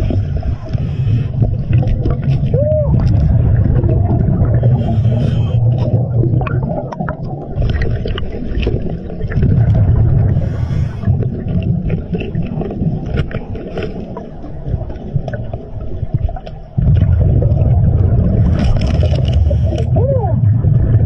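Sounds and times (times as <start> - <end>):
exhaled bubbles rushing: 0.0 - 21.0
low underwater rumble: 0.0 - 21.0.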